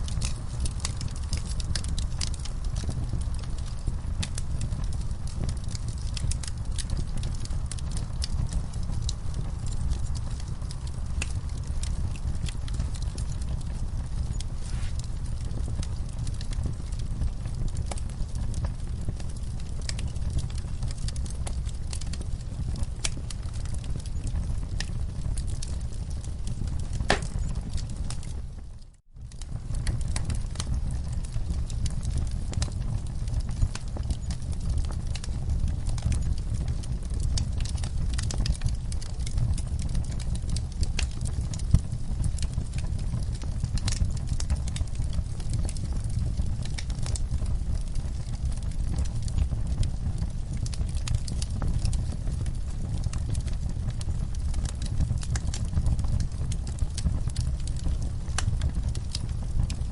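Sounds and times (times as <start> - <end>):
fire crackles and pops: 0.0 - 59.9
wood fire burning: 0.0 - 59.9.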